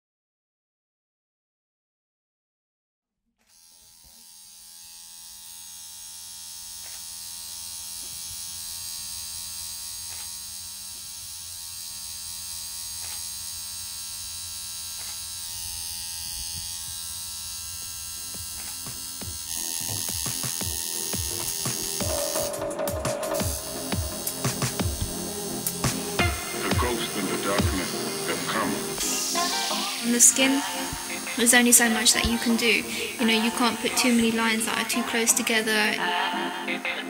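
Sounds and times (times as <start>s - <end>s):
tattoo machine buzzing: 3.4s - 37.0s.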